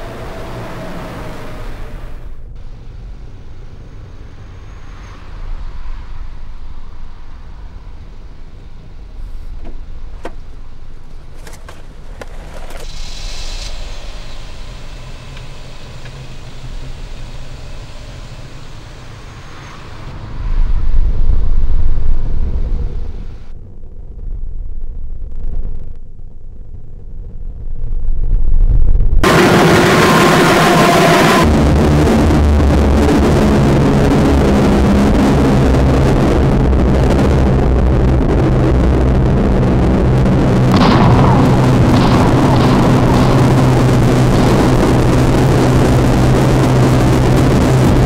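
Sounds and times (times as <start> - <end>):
car engine rumbling: 0.0 - 48.0.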